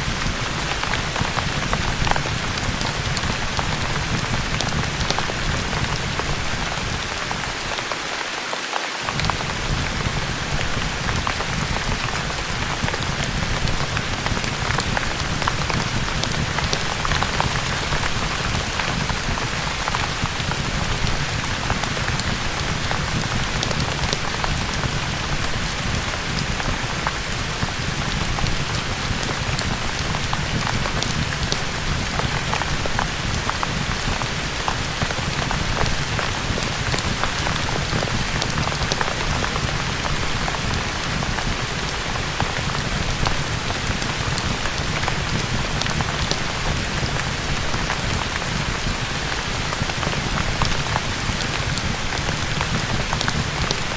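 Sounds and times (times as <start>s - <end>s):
fireplace fire crackling: 0.0s - 8.0s, 9.0s - 53.9s
heavy rain: 0.0s - 53.9s.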